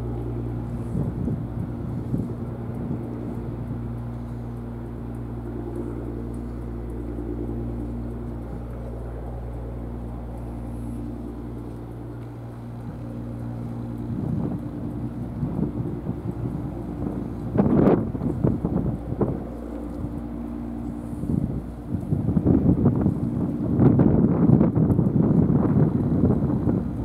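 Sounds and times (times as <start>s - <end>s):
low engine drone: 0.0s - 27.0s
wind buffeting microphone: 0.0s - 27.0s.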